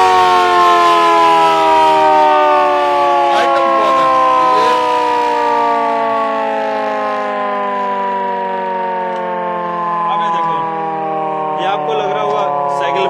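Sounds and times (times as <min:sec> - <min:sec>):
motor siren wailing: 0:00.0 - 0:13.0.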